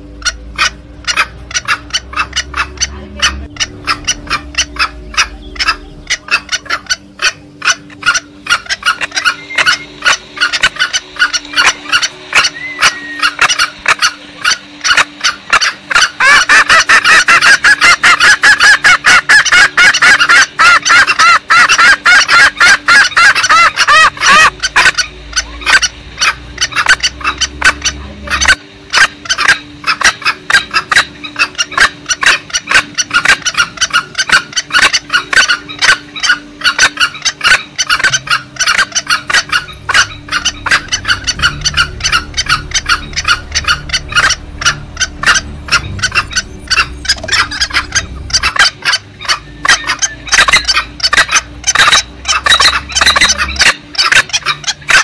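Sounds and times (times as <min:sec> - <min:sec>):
junglefowl clucking calls: 0:00.0 - 0:55.0.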